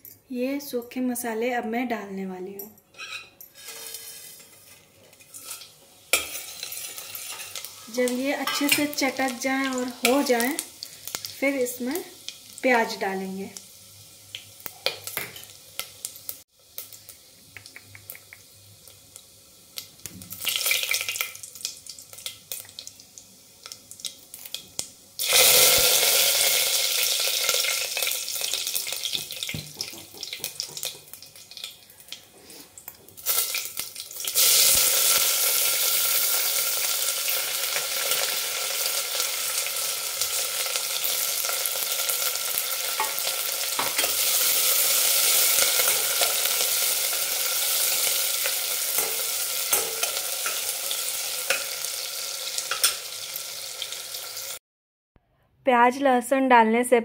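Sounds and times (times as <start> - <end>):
loud steady sizzle: 3.5 - 54.6
spices crackling in hot fat: 3.5 - 54.6.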